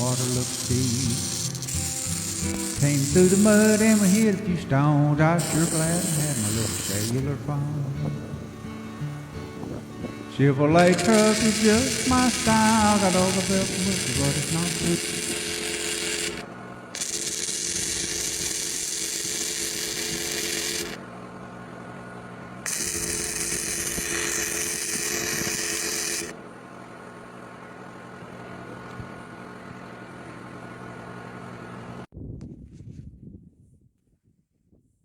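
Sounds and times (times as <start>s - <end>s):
power tool running: 0.0s - 32.1s.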